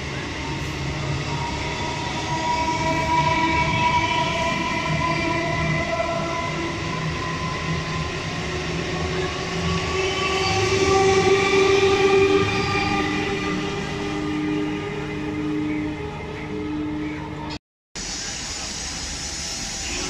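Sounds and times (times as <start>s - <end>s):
electric train rumbling past: 0.0s - 20.0s
train whining tones: 0.0s - 20.0s.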